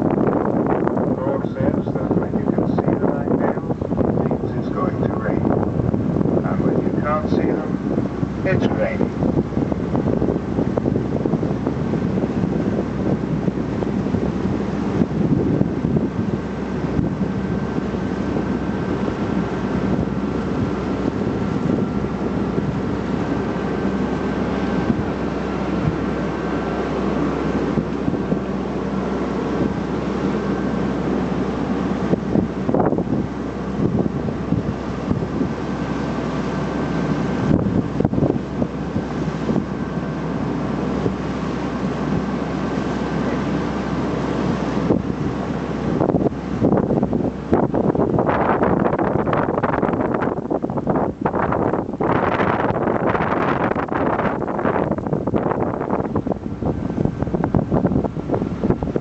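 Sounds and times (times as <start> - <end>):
boat engine humming: 0.0 - 59.0
wind buffeting microphone: 0.0 - 59.0.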